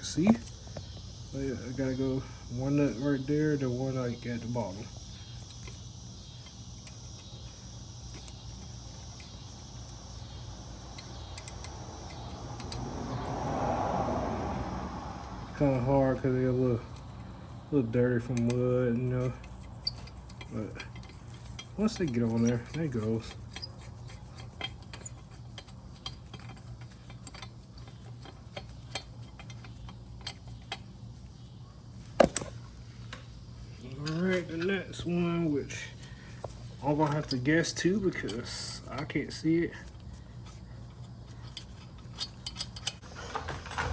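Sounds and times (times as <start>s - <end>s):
crickets chirring: 0.0s - 43.9s
steady low hum: 0.0s - 43.9s.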